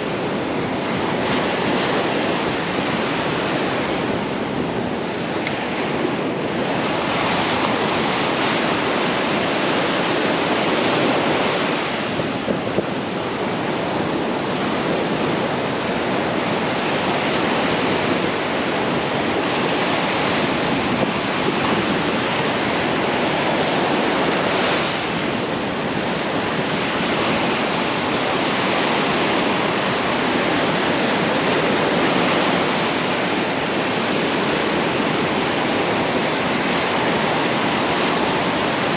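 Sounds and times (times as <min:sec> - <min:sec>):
ocean surf breaking on beach: 0:00.0 - 0:38.9
wind buffeting microphone: 0:00.0 - 0:38.9.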